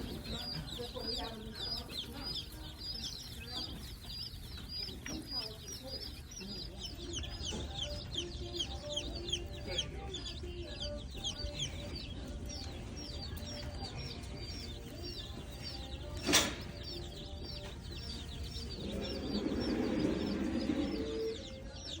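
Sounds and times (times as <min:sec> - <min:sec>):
baby birds cheeping: 0:00.0 - 0:22.0.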